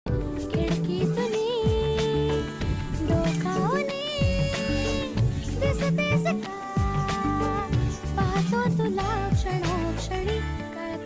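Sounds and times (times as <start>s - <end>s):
film-song style background music: 0.1s - 11.0s.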